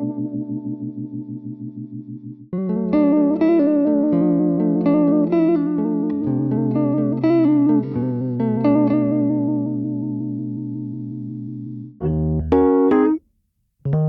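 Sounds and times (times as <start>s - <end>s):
guitar picked notes: 0.0s - 10.2s, 12.0s - 13.2s.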